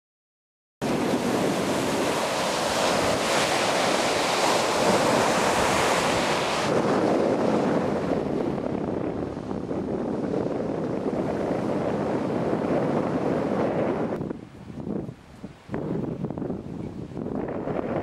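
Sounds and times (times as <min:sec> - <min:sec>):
surf breaking on sandy beach: 0:00.8 - 0:18.0
wind buffeting microphone: 0:00.8 - 0:18.0.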